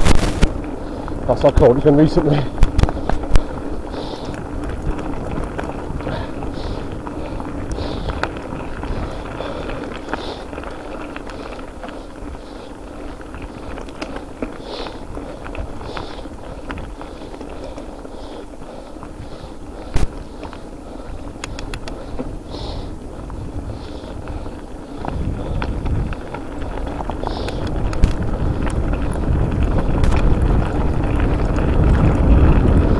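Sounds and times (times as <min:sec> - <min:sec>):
bike rattles and clicks: 0:00.0 - 0:32.9
bike tyres rolling on rough track: 0:00.0 - 0:32.9
wind buffeting microphone: 0:00.0 - 0:32.9.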